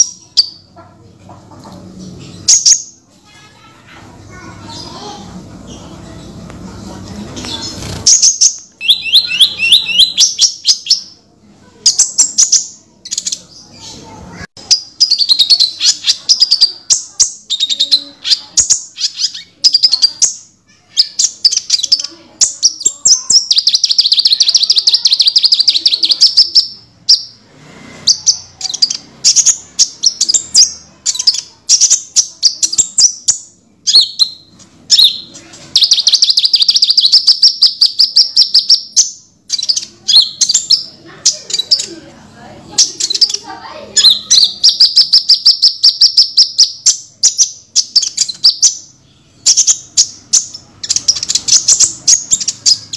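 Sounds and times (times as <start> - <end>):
bird singing sharp chirps and trills: 7.4 - 11.2, 11.8 - 42.0, 42.7 - 52.9.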